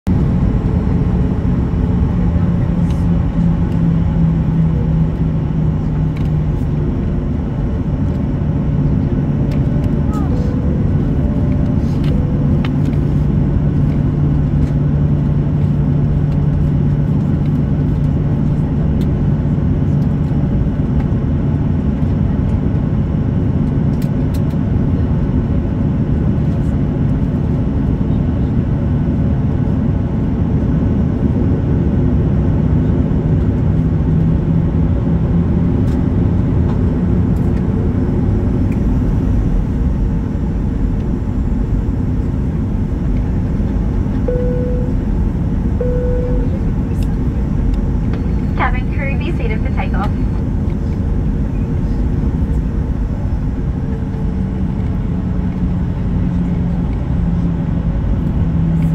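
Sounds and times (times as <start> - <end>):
jet engines humming at low power: 0.1 - 58.9.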